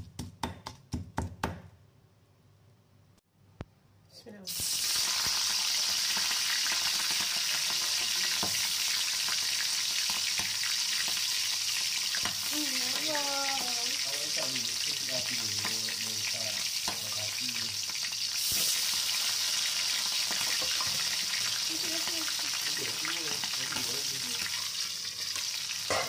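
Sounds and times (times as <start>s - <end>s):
frying crackles and pops: 4.5s - 26.0s
hot oil sizzling in a wok: 4.5s - 26.0s.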